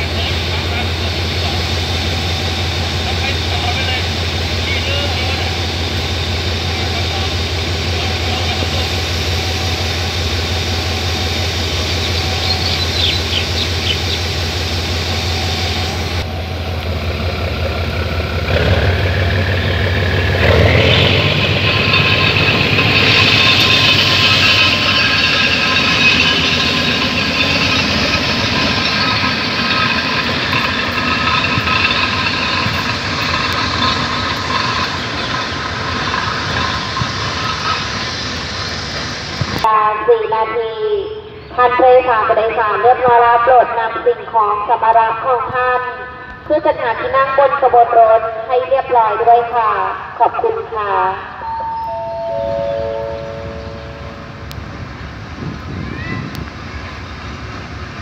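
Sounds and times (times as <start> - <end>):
locomotive diesel engine: 0.0 - 58.0
locomotive whine: 0.0 - 58.0.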